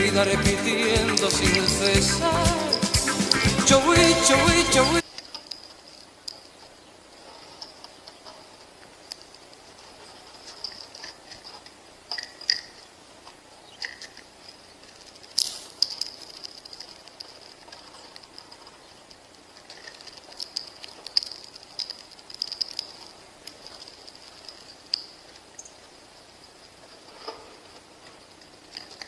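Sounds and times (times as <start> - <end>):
faint steady high hiss: 0.0 - 29.0
small birds chirping: 0.0 - 29.0.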